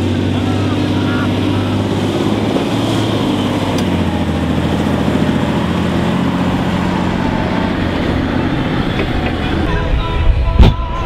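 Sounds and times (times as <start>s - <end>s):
truck diesel engine under load: 0.0s - 11.0s.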